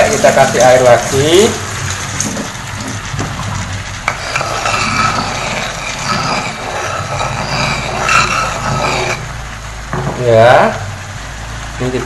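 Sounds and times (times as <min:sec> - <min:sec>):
food bubbling and sizzling in pan: 0:00.0 - 0:12.0.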